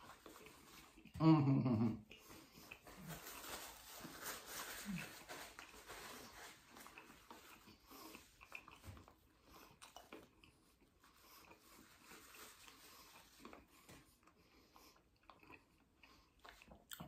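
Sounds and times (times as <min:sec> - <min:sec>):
man chewing: 0:00.0 - 0:01.2, 0:02.0 - 0:17.0.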